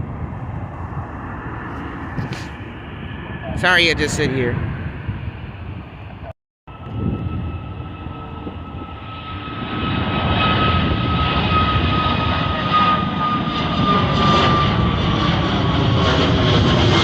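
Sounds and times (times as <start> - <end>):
jet engines high whine: 0.0 - 17.0.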